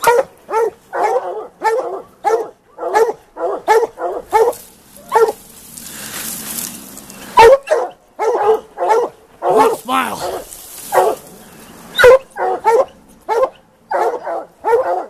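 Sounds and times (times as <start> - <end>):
hounds barking: 0.0 - 6.2, 7.1 - 15.0.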